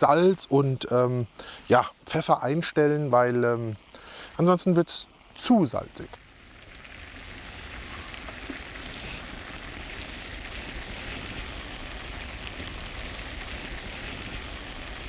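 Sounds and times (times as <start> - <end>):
faint fire crackles: 0.0 - 15.0
food bubbling and sizzling in pan: 0.0 - 15.0.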